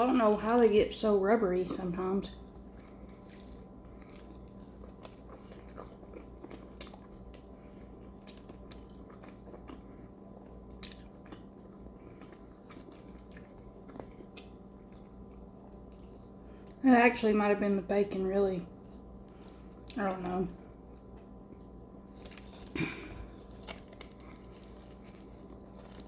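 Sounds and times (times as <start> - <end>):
person chewing food: 2.3 - 16.8, 18.7 - 26.0
small crunches: 2.3 - 16.8, 18.7 - 26.0.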